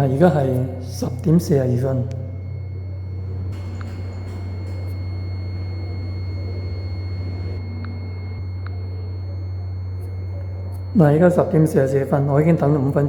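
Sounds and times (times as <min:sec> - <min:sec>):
high-pitched whine: 0:00.0 - 0:13.0
steady low hum: 0:00.0 - 0:13.0.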